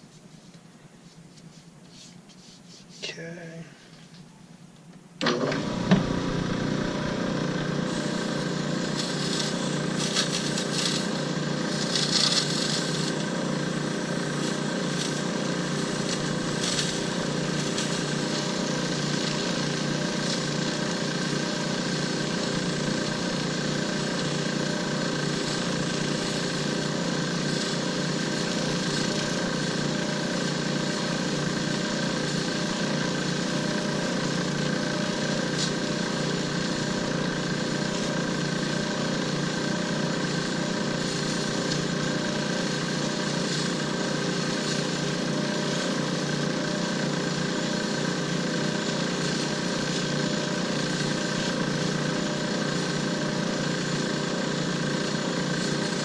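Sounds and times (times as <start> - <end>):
hissy scraping of wood: 0.0 - 3.2, 7.1 - 56.0
lathe motor hum: 5.2 - 56.0.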